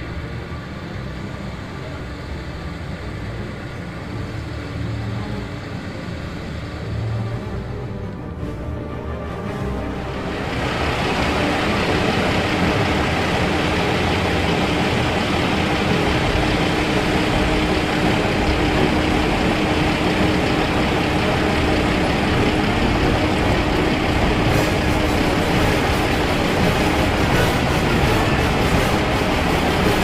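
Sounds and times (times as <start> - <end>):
heavy farm machinery engine: 0.0 - 30.0.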